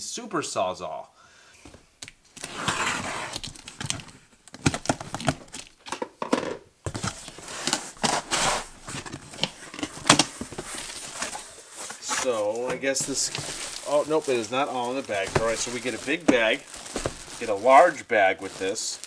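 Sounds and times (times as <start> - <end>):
cardboard rustling and scraping: 1.7 - 5.8, 6.8 - 19.0.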